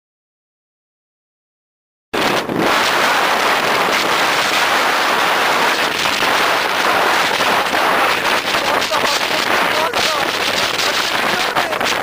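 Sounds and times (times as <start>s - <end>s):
wind buffeting microphone: 2.2s - 12.0s.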